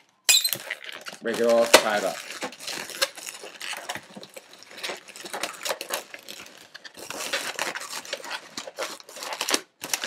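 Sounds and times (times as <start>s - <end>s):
balloons creaking and clicking: 0.0s - 10.0s.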